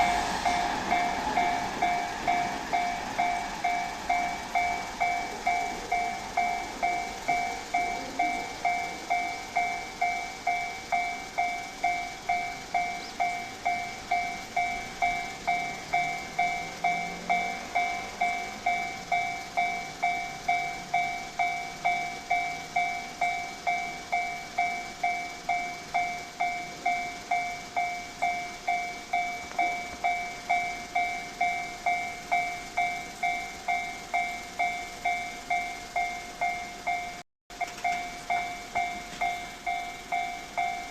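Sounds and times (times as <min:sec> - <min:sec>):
level-crossing warning bell: 0:00.0 - 0:40.9.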